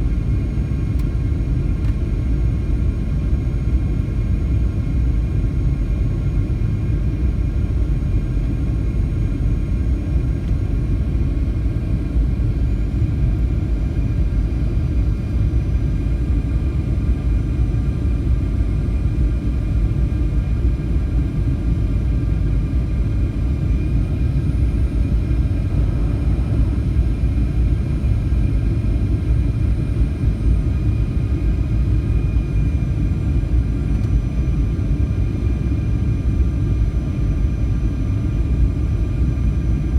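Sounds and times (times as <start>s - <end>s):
faint steady whine: 0.0s - 39.9s
jet engines and airflow rumble: 0.0s - 39.9s.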